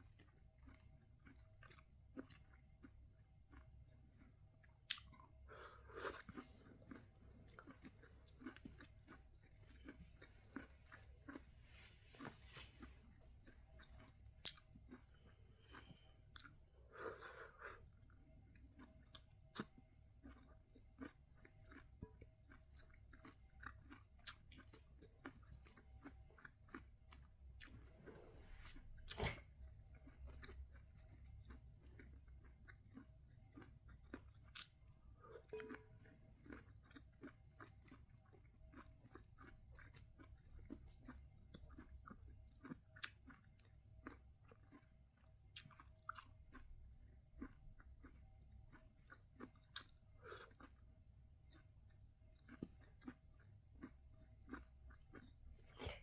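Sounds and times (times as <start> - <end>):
person chewing corn: 0.0 - 56.0.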